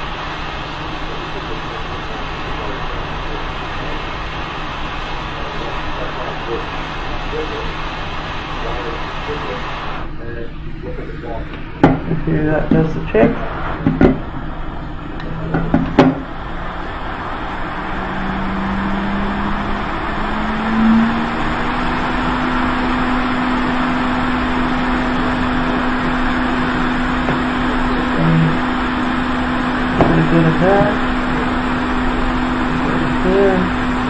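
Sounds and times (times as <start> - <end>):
hot air station blowing: 0.0 - 34.0.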